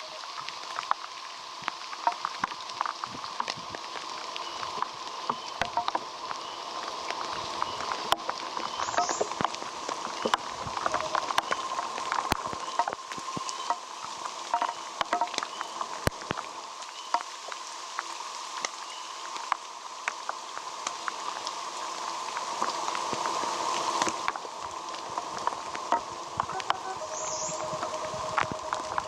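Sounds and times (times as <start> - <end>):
raindrops ticking close by: 0.0 - 29.0
steady rain falling: 0.0 - 29.0.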